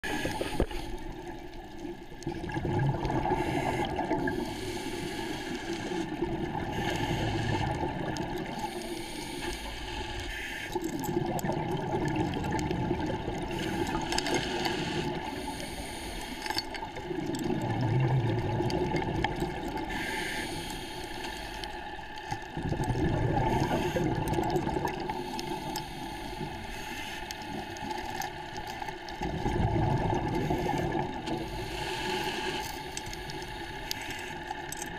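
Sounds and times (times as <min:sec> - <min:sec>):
exhaled bubbles gurgling: 0:00.0 - 0:34.9
underwater rumble: 0:00.0 - 0:34.9.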